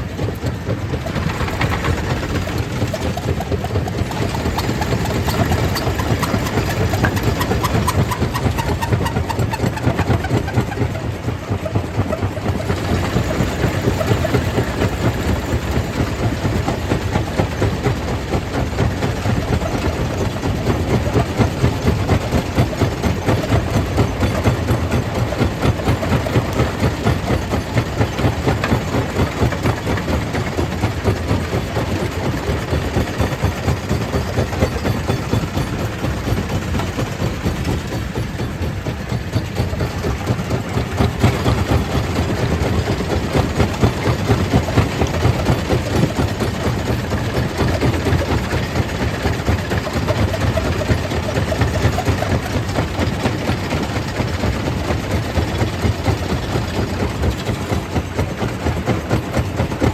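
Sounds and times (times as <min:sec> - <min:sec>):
stone crusher machinery running: 0:00.0 - 0:59.9.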